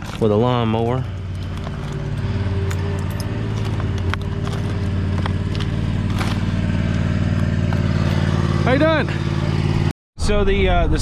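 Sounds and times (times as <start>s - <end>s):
lawnmower engine running: 0.0s - 9.9s.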